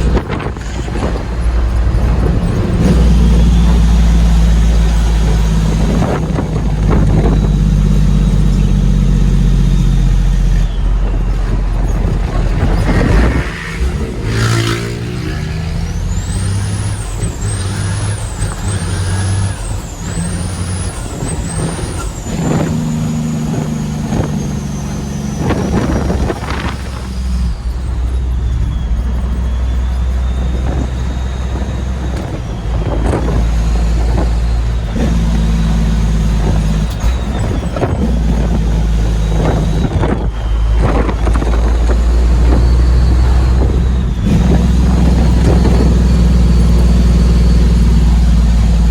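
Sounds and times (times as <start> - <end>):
diesel truck engine under load: 0.0 - 48.9.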